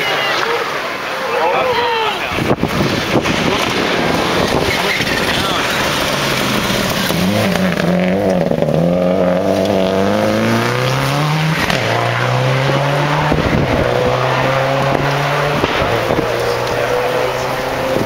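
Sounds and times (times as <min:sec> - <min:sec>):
rally car engine revving: 0:02.4 - 0:18.0.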